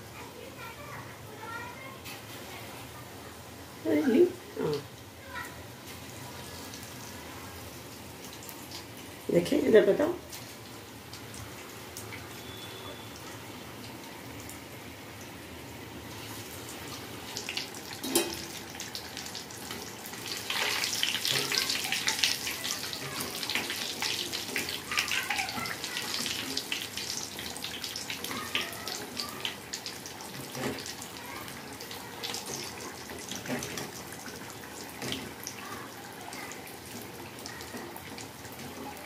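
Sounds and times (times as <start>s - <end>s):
fritters sizzling in hot oil: 3.9s - 39.0s.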